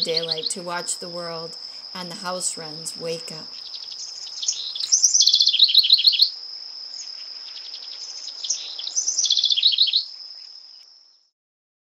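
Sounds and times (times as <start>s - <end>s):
wren singing: 0.0s - 10.5s.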